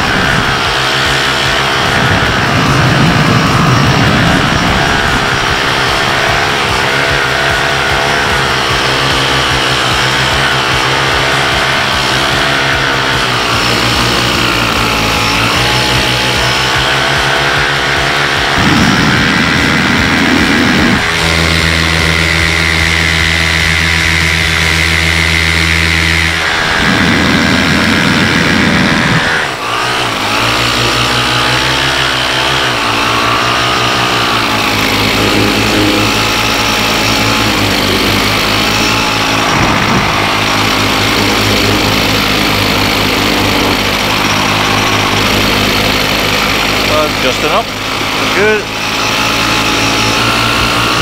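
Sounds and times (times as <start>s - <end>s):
wind noise rush: 0.0s - 13.8s, 18.2s - 24.5s, 25.2s - 47.0s
paramotor engine and propeller: 0.0s - 51.0s.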